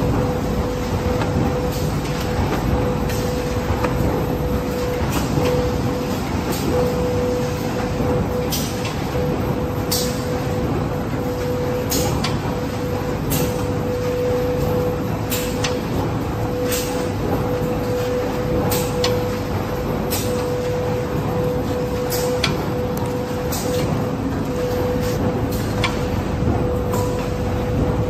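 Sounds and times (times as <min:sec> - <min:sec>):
factory machine din with hum: 0:00.0 - 0:28.0.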